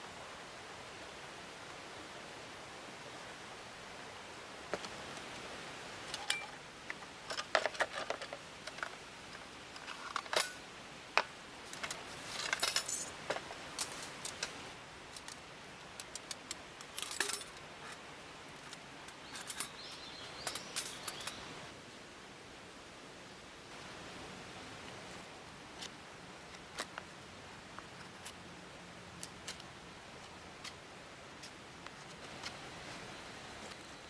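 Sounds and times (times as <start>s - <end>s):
steady background hiss: 0.0s - 34.0s.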